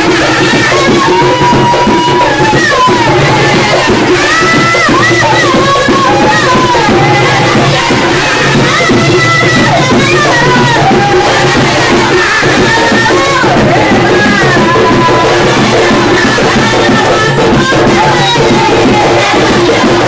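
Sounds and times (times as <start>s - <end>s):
hand drums beating: 0.0s - 20.0s
woman singing into a microphone: 0.0s - 20.0s.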